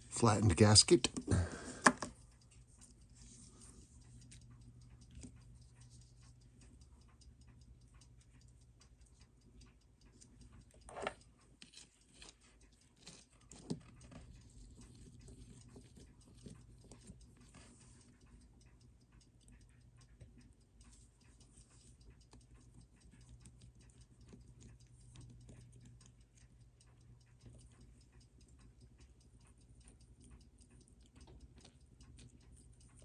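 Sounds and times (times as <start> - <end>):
faint rapid ticking: 0.0 - 33.0
low steady hum: 0.0 - 33.0.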